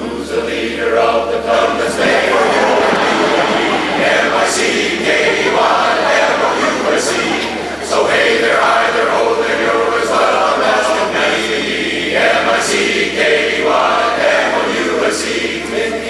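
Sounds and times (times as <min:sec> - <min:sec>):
men's chorus singing a cappella: 0:00.0 - 0:16.0.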